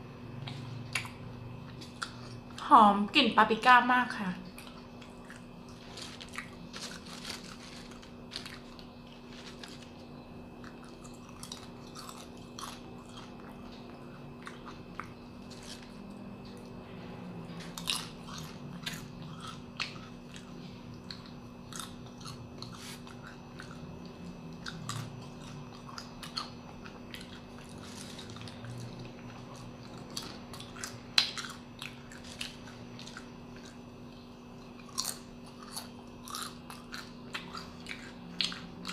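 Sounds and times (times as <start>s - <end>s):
low steady hum: 0.0s - 38.9s
crunchy chewing of chips: 0.3s - 2.7s, 4.4s - 38.9s.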